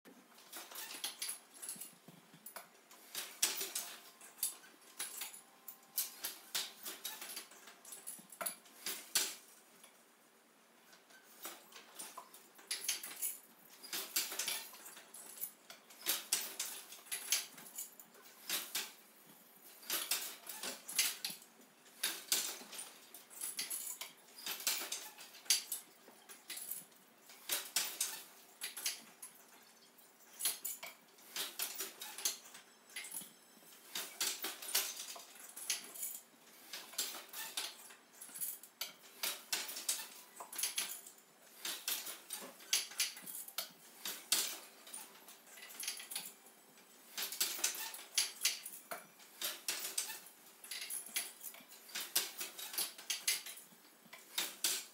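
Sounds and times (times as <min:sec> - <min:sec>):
wooden hand loom clacking: 0:00.1 - 0:10.0, 0:10.9 - 0:54.9.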